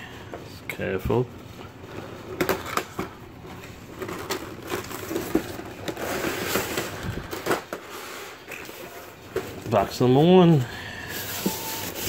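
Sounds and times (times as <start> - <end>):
packaging rustling: 1.8 - 12.0.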